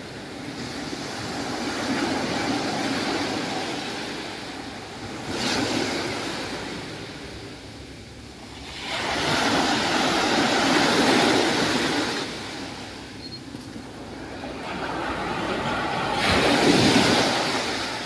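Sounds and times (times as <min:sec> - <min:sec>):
small waves breaking on sand: 0:00.0 - 0:07.7, 0:08.3 - 0:18.0.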